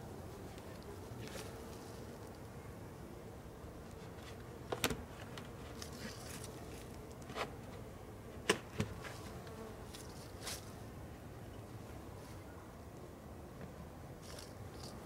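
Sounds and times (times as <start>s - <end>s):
bees buzzing faintly: 0.0s - 15.0s.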